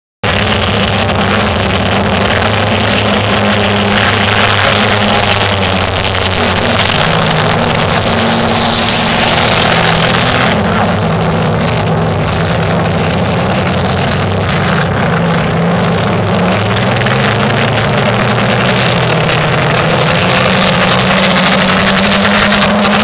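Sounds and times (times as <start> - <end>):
race car engines at high revs: 0.2 - 23.0.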